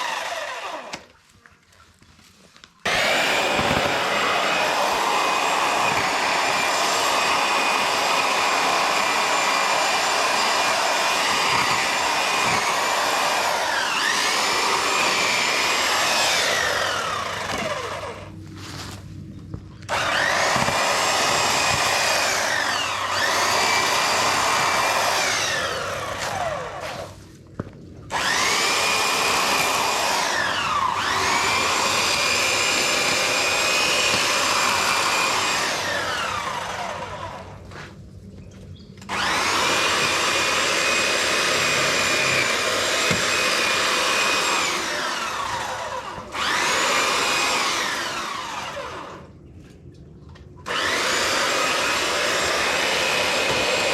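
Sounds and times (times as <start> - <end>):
power tool motor whining: 0.0 - 1.1, 2.9 - 19.0, 19.9 - 27.2, 28.1 - 37.6, 39.0 - 49.3, 50.6 - 53.9.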